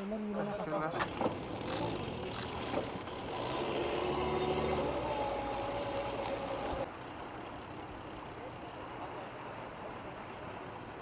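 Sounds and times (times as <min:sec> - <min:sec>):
outboard motors humming: 0:00.7 - 0:11.0.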